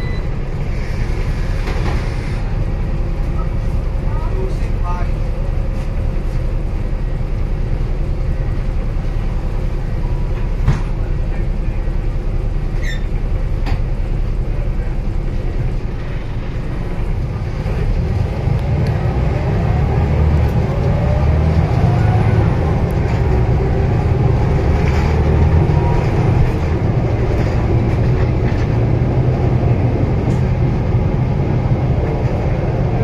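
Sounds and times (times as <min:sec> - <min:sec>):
bus engine rumble: 0:00.0 - 0:33.0.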